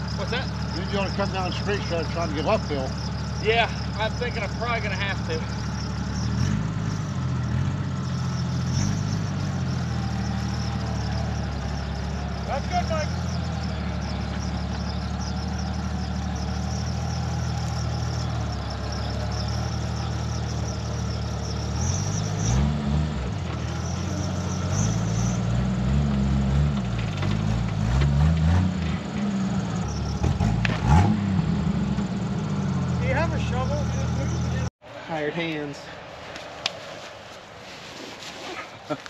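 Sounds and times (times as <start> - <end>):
engine idling and revving: 0.0 - 34.7.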